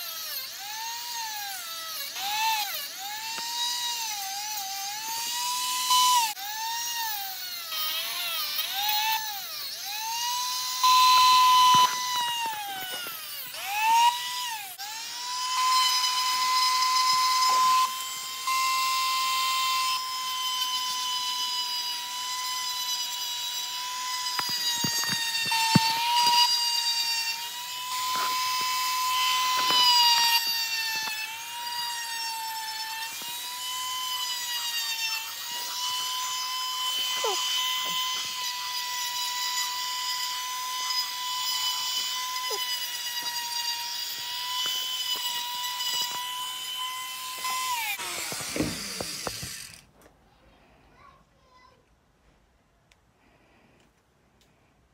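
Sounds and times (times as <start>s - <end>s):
rotary tool whining: 0.0s - 50.1s.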